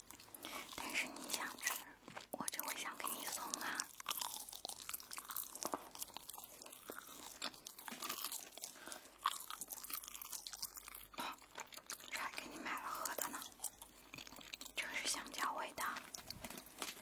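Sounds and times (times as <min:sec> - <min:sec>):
crunching crisp toast: 0:00.0 - 0:17.0.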